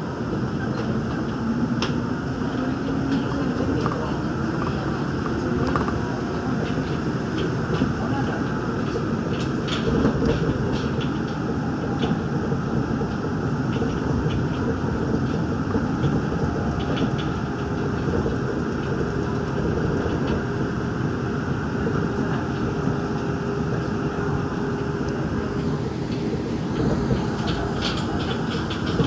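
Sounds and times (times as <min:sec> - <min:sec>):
monorail car rumbling: 0:00.0 - 0:29.0.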